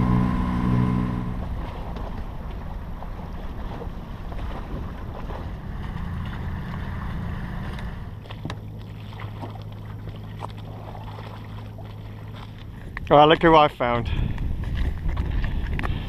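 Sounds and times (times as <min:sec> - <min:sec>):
steady low hum: 0:00.0 - 0:13.2
wind and water noise: 0:00.0 - 0:16.0.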